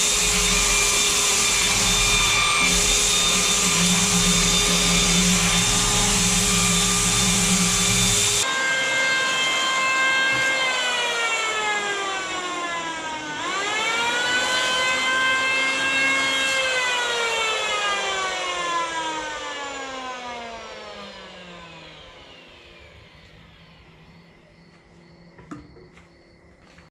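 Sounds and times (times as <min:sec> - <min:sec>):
high-pitched machine whine: 0:00.0 - 0:25.7.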